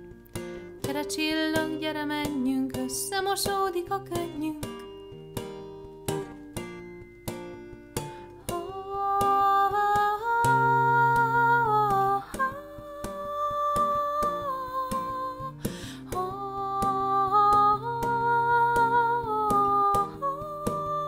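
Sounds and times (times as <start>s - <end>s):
acoustic guitar picked slowly: 0.0s - 21.0s.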